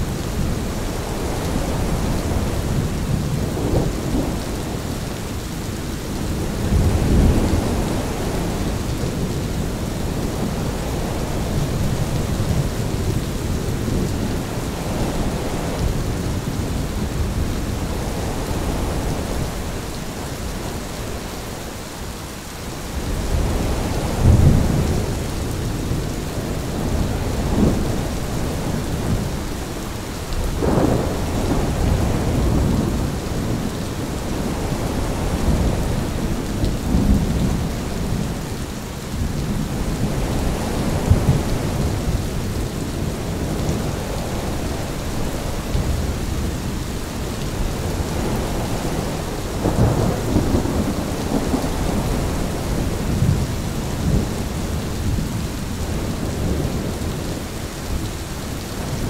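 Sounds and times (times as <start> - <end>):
low rolling thunder: 0.0 - 21.2, 23.0 - 58.1
gusting wind: 0.0 - 59.0
heavy rain: 0.0 - 59.0.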